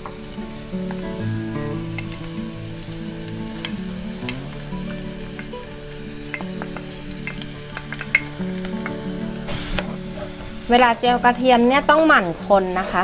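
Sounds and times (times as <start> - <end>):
garlic sizzling in oil: 0.0 - 13.0
soft background music: 0.0 - 13.0.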